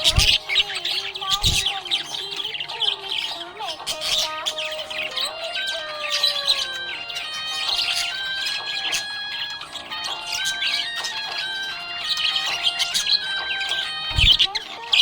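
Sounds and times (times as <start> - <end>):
background music with held notes: 0.0 - 15.0
parrots chirping and chattering: 0.0 - 15.0.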